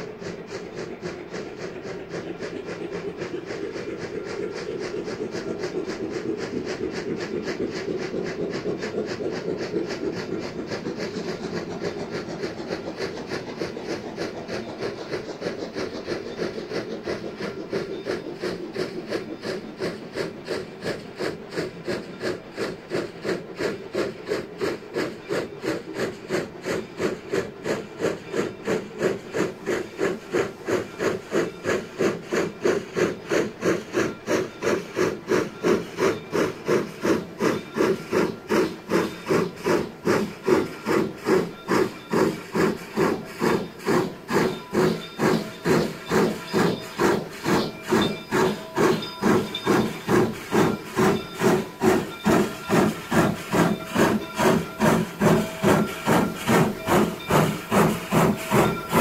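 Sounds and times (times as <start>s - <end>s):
steam locomotive exhaust chuffing: 0.0s - 59.0s.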